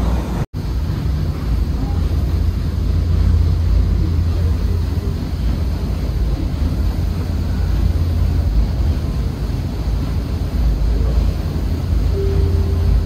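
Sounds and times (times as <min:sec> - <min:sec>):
paddlewheel churning water: 0:00.1 - 0:13.0.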